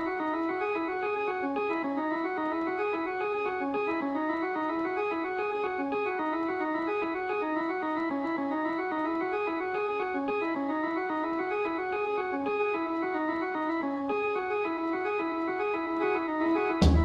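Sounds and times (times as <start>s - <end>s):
organ-like keyboard music: 0.0s - 17.0s.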